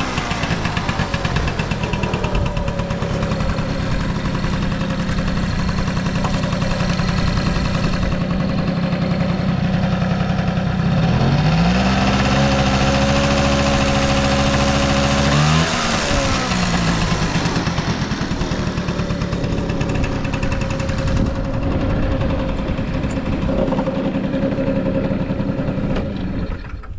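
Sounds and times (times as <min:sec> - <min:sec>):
scooter engine idling and revving: 0:00.0 - 0:26.9.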